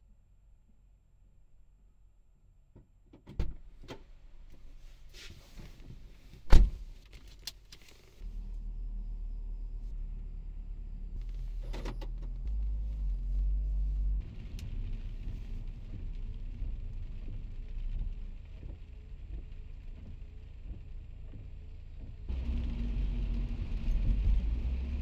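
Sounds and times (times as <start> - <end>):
car engine and road rumble: 2.6 - 25.0.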